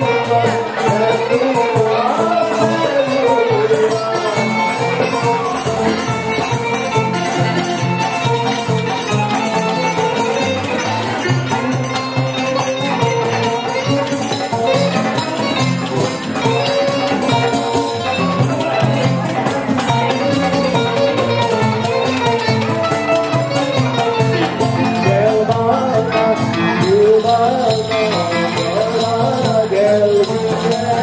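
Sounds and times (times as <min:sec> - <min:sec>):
oud playing a melody: 0:00.0 - 0:31.0.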